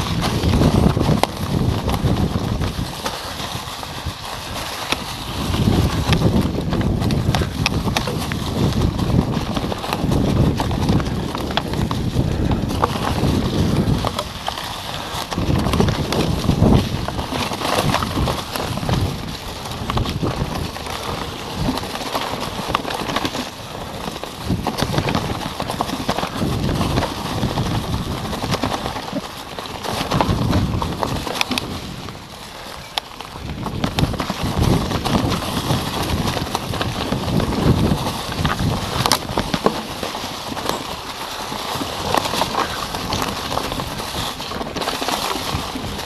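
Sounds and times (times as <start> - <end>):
bike rattling and knocking: 0.0 - 46.0
bike tyres crunching over leaves: 0.0 - 46.0.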